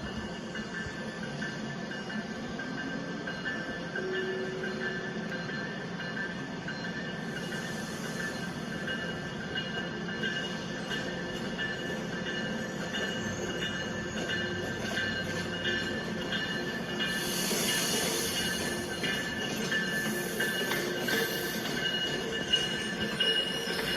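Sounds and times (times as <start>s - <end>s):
train rumbling: 0.0s - 23.9s
train wheels squealing: 0.0s - 23.9s.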